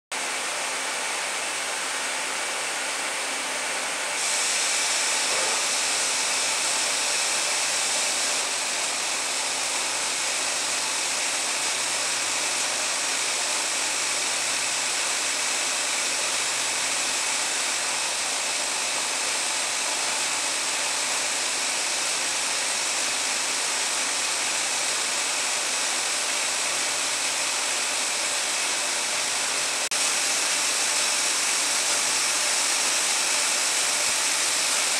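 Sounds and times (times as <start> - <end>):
machine hiss with faint hum: 4.2 - 34.9.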